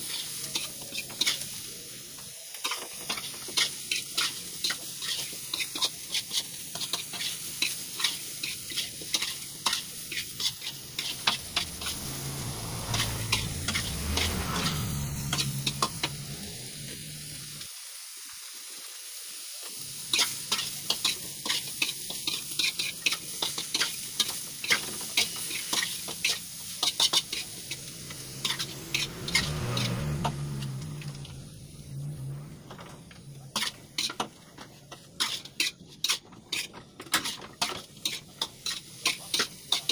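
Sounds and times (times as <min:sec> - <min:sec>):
vegetables sizzling in a wok: 0:00.0 - 0:39.9.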